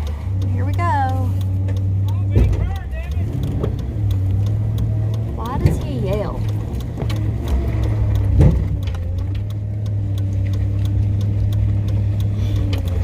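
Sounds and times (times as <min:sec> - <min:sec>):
faint ticking: 0:00.0 - 0:13.0
truck engine rumbling: 0:00.0 - 0:13.0.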